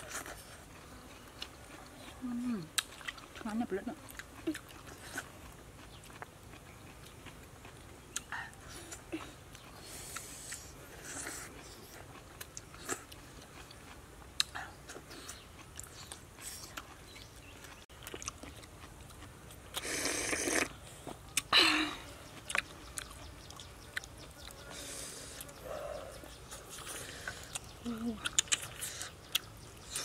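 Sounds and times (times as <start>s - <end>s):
chewing and biting: 0.0s - 21.5s, 22.2s - 30.0s.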